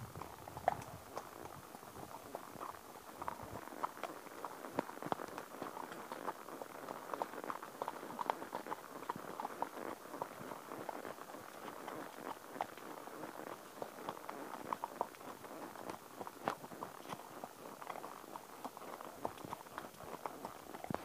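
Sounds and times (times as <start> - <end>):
hoofbeats on fallen leaves: 0.0 - 21.0.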